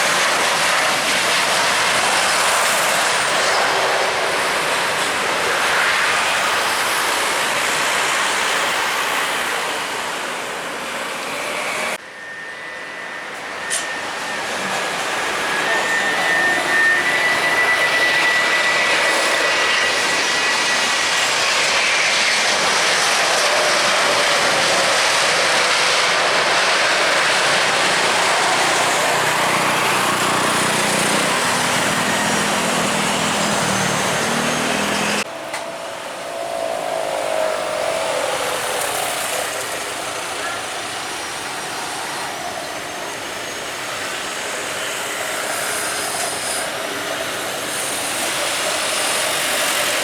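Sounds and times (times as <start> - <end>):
high jet engine whine: 0.0 - 50.0
jet engines roaring: 0.0 - 50.0.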